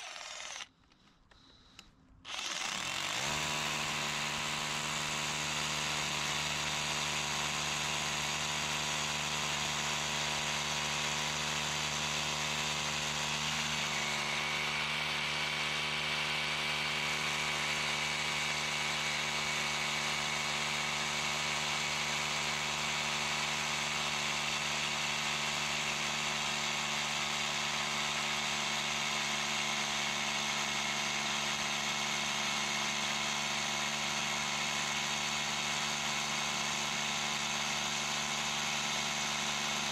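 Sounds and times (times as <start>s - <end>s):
power tool motor running: 0.0s - 0.7s, 2.3s - 39.9s.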